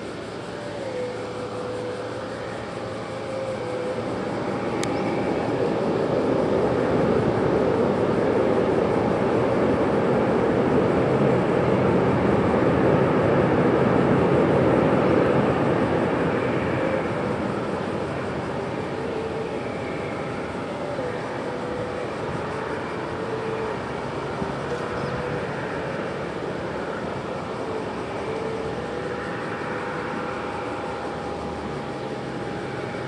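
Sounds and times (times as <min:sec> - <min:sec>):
jet engines rumbling: 0:00.0 - 0:33.0.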